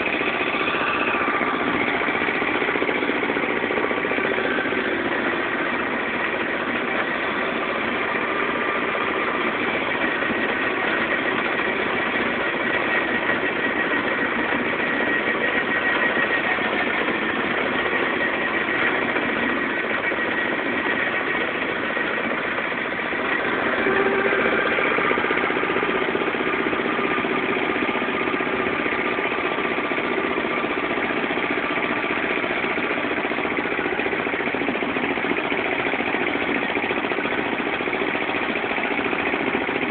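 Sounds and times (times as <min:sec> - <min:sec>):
diesel tractor engine roaring: 0:00.0 - 0:39.9.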